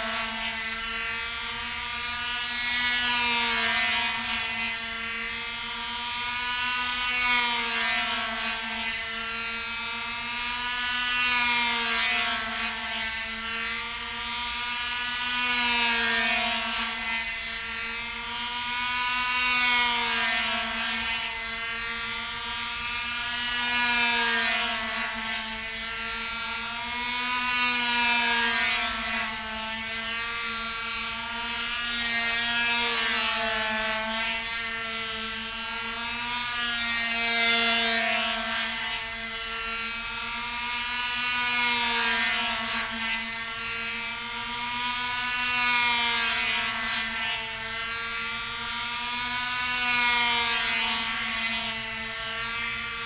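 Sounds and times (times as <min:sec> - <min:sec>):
model airplane engine buzzing: 0:00.0 - 0:53.0.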